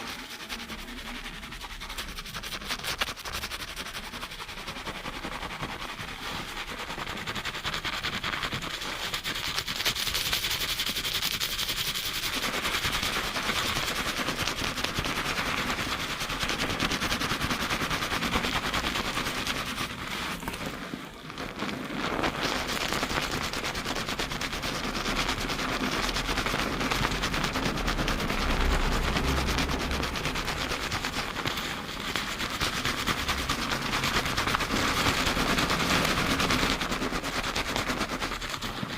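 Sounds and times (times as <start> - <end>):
fingers scrubbing lathered scalp: 0.0 - 20.7, 21.7 - 38.9.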